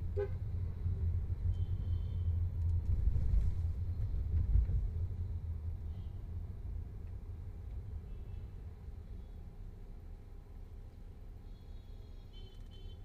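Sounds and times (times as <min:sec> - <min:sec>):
car engine rumble: 0:00.0 - 0:11.4.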